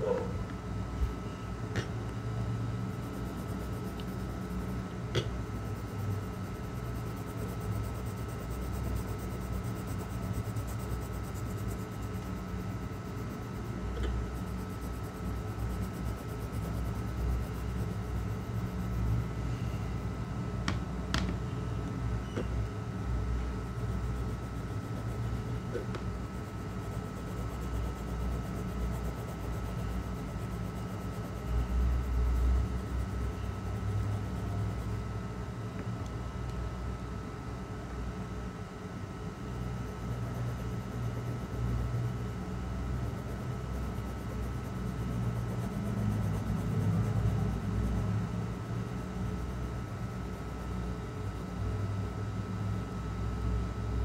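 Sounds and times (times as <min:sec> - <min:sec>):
low room hum: 0:00.0 - 0:54.0.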